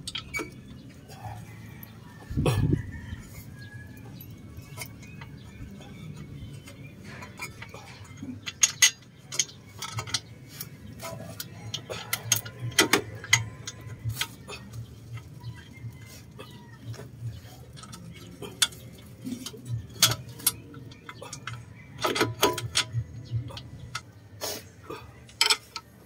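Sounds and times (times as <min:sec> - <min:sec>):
metal tools clicking and clinking: 0:00.0 - 0:00.9, 0:03.6 - 0:24.1, 0:25.2 - 0:26.0.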